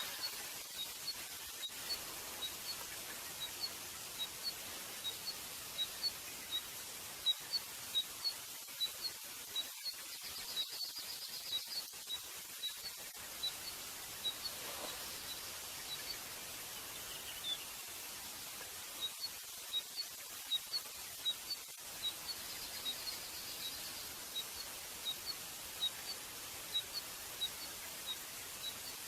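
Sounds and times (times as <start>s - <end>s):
small bird chirping: 0.0s - 29.0s
steady hiss: 0.0s - 29.0s.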